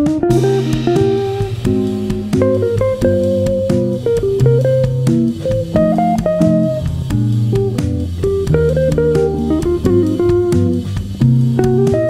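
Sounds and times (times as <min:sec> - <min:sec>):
bass guitar line: 0:00.0 - 0:12.0
plucked guitar notes: 0:00.0 - 0:12.0.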